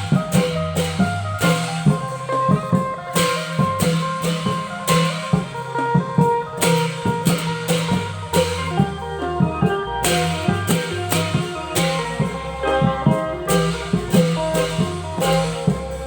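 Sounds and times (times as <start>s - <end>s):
cymbal washes: 0.0s - 16.0s
long drums playing rhythm: 0.0s - 16.0s
melody over drums: 0.0s - 16.0s.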